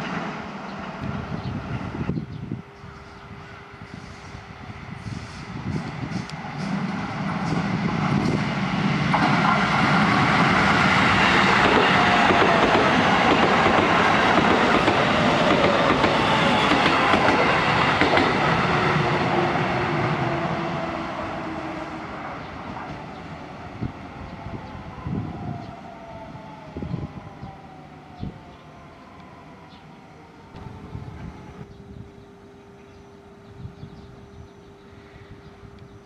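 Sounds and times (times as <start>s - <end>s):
electric train passing: 0.0s - 35.4s.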